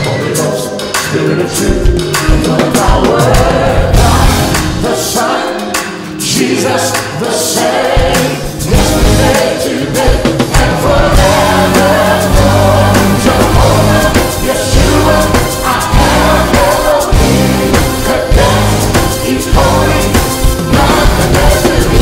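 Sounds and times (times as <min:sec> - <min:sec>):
gospel music with singing: 0:00.0 - 0:22.0.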